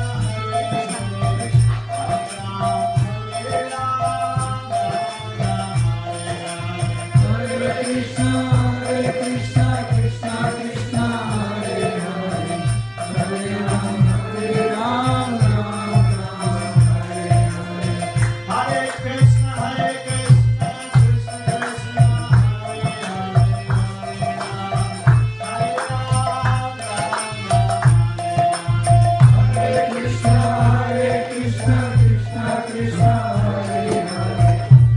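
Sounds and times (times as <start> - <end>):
devotional chanting: 0.0 - 34.9
percussion beat: 0.0 - 34.9.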